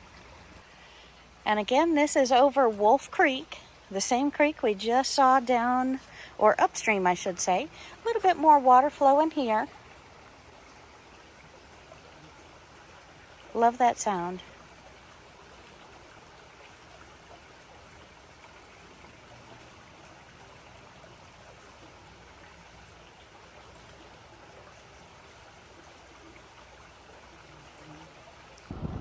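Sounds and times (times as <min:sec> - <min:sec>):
creek water running: 0:00.0 - 0:29.0.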